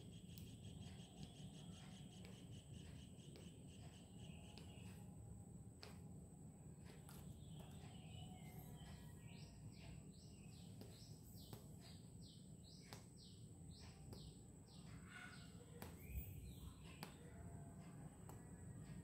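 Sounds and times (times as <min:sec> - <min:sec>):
bird chirping: 0:00.0 - 0:05.2, 0:06.8 - 0:19.0.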